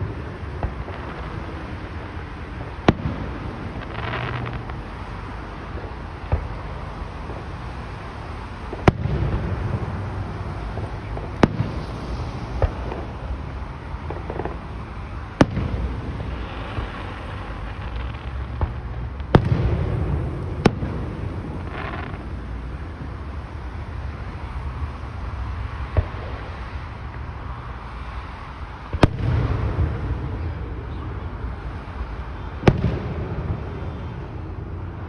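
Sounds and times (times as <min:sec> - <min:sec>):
fireworks bangs: 0:00.0 - 0:27.2, 0:28.8 - 0:35.0
small fireworks pops: 0:00.0 - 0:27.2, 0:27.9 - 0:34.9.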